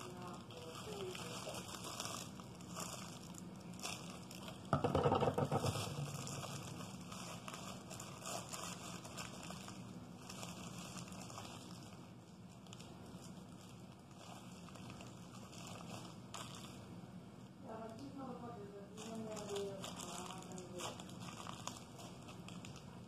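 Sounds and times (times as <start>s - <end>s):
plastic piping bag crinkling: 0.0s - 17.0s, 17.6s - 23.0s.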